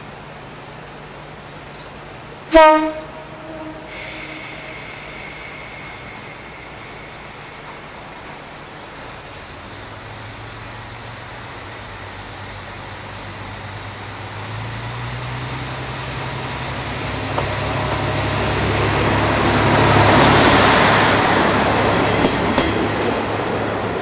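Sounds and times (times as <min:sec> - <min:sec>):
diesel railcar engine drone: 0:00.0 - 0:24.0.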